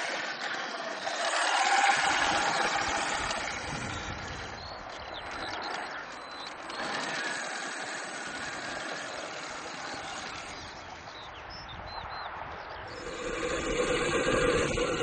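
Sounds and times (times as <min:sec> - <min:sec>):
electric motor of toy car running: 0:00.0 - 0:11.2, 0:12.9 - 0:15.0.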